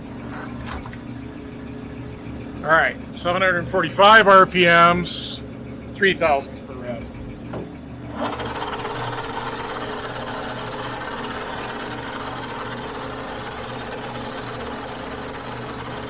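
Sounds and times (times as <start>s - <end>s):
metal lathe humming: 1.3s - 16.0s.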